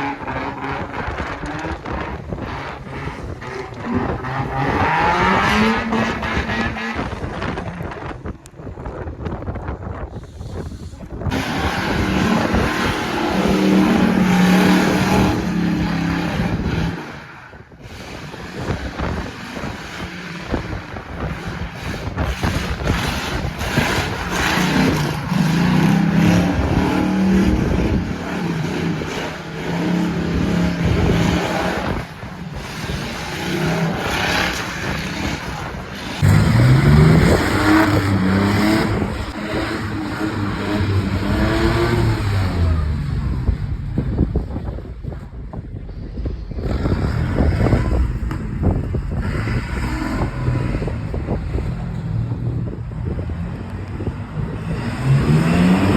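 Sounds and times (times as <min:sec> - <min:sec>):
car engine revving: 0:00.0 - 0:08.2, 0:11.2 - 0:44.6, 0:46.6 - 0:55.9.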